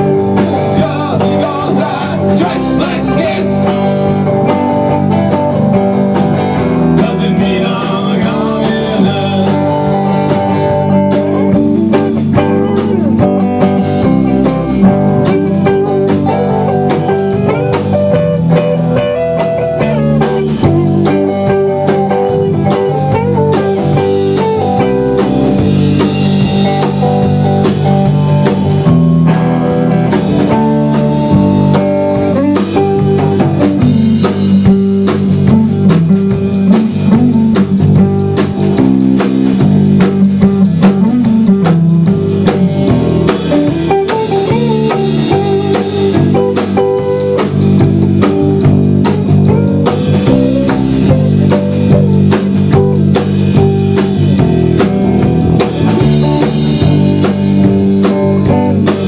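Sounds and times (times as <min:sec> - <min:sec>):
bass guitar: 0:00.0 - 0:59.0
drum kit: 0:00.0 - 0:59.0
electric guitars: 0:00.0 - 0:59.0.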